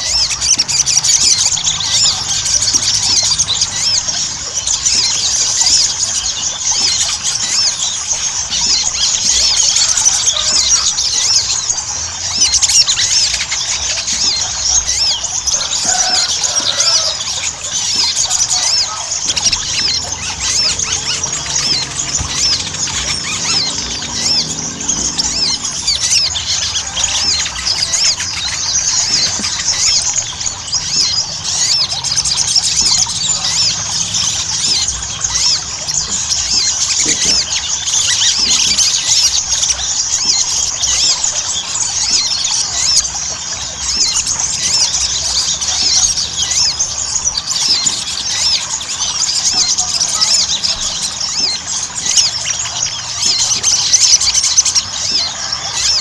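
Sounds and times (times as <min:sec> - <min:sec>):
bird chirping and trilling: 0:00.0 - 0:56.0.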